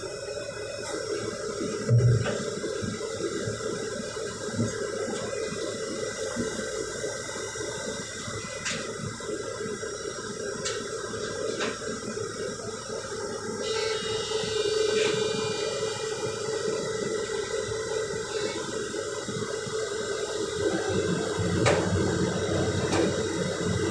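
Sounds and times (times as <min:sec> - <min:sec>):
excavator engines and hydraulics humming: 0:00.0 - 0:23.9.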